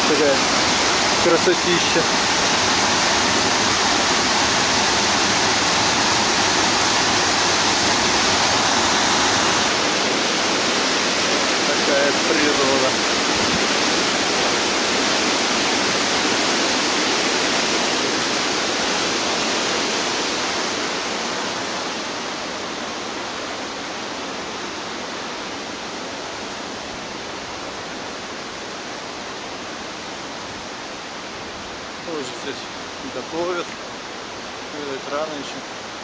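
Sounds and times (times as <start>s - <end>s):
river rushing: 0.0s - 36.0s.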